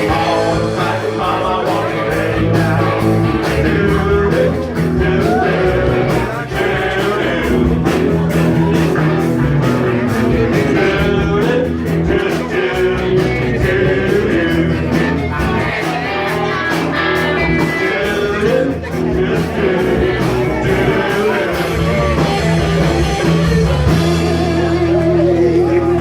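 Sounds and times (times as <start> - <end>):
bass: 0.0 - 26.0
electric guitar: 0.0 - 26.0
steady drum beat: 0.0 - 26.0.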